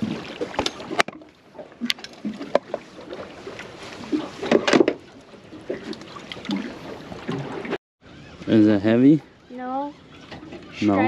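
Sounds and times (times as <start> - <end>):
water: 0.0 - 11.0
wind: 0.0 - 11.0.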